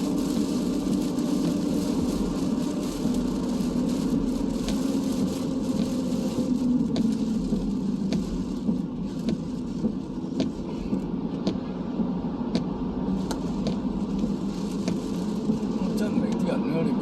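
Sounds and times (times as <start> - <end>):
car driving drone inside cabin: 0.0 - 17.0
raindrops ticking on car: 0.0 - 17.0.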